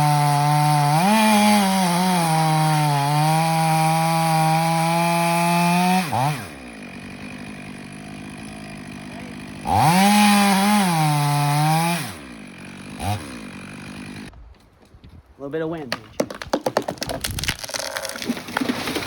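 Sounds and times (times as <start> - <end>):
chainsaw cutting and idling: 0.0 - 14.3, 16.2 - 19.0.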